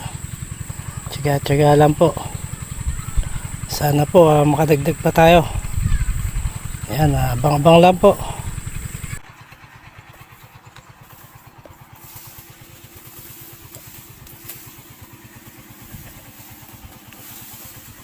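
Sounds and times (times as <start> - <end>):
small engine puttering: 0.0 - 18.0.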